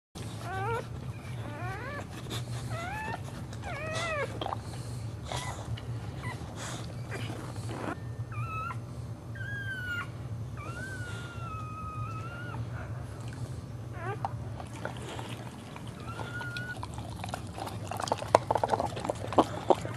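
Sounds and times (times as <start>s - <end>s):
dog whining: 0.2s - 19.9s
steady low hum: 0.2s - 19.9s.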